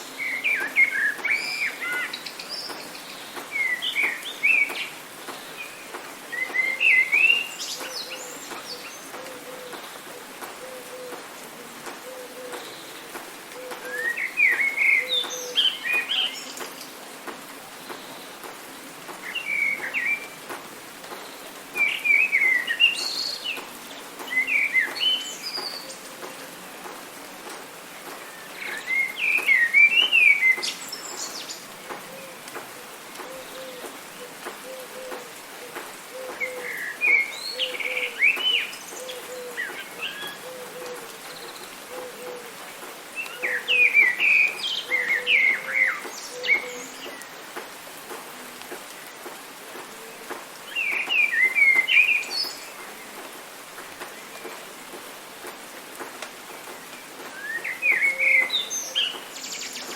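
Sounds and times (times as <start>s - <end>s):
rain hiss: 0.0s - 59.9s
songbird singing: 0.0s - 59.9s.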